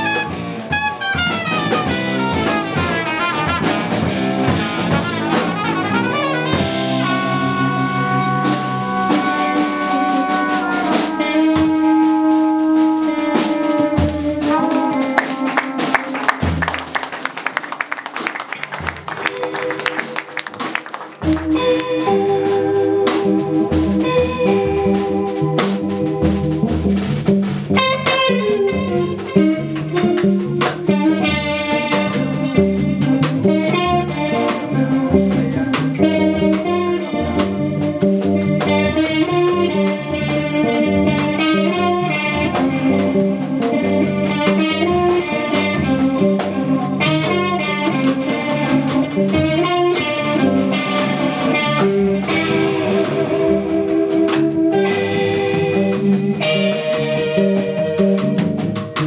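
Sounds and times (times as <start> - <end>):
electric bass guitar: 0.0 - 17.2, 18.4 - 59.0
drum kit: 0.0 - 59.0
fast plucked notes: 0.0 - 59.0.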